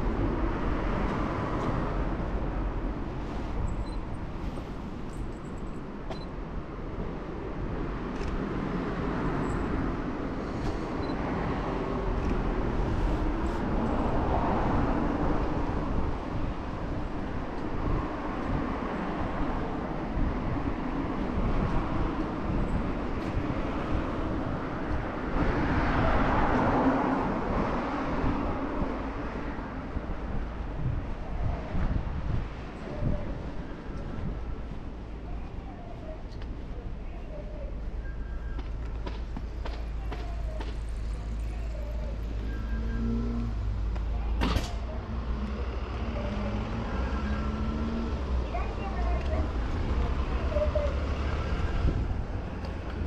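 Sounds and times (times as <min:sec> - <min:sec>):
road traffic hum: 0:00.0 - 0:53.0.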